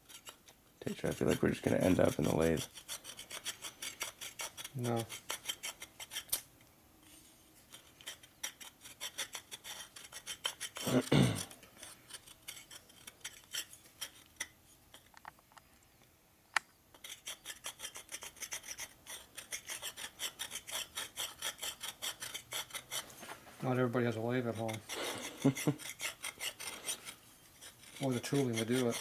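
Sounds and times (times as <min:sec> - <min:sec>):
hand file scraping metal: 0:00.0 - 0:15.0, 0:16.9 - 0:29.0.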